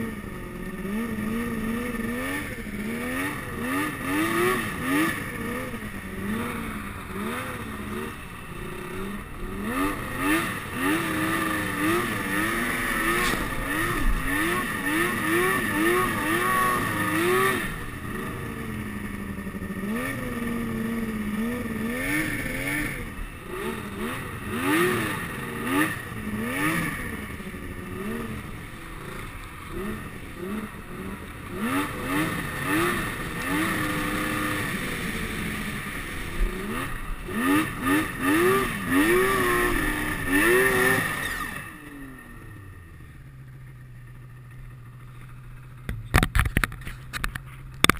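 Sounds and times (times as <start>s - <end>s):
snowmobile engine revving: 0.0s - 45.8s
steady high whine: 0.0s - 47.9s.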